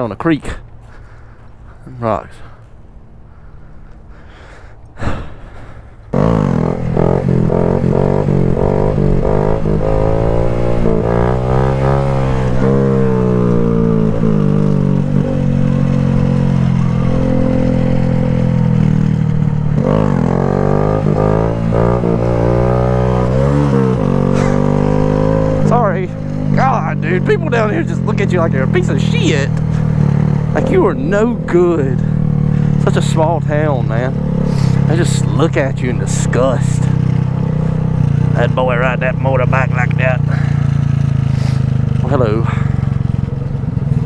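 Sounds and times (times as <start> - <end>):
motorcycle engine accelerating: 6.1 - 44.0.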